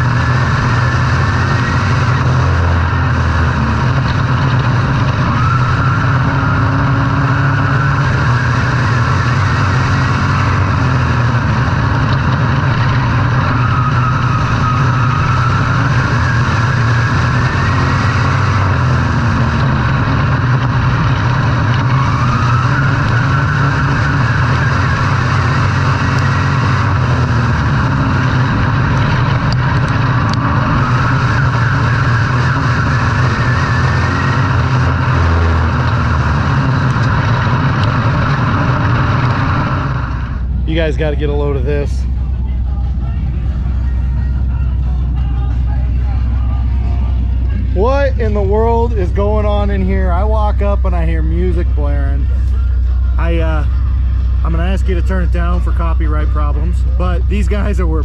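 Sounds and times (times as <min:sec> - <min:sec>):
racing engine droning: 0:00.0 - 0:58.0.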